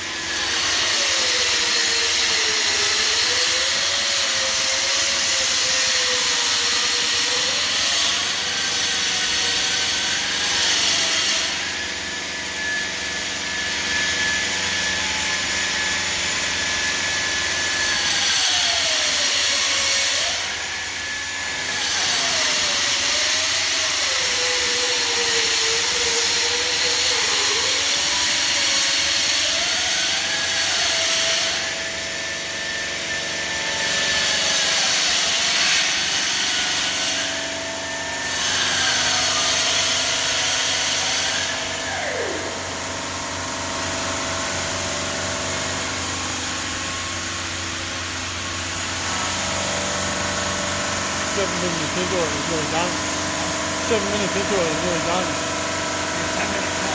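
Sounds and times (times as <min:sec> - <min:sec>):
stone saw cutting granite: 0:00.0 - 0:56.9.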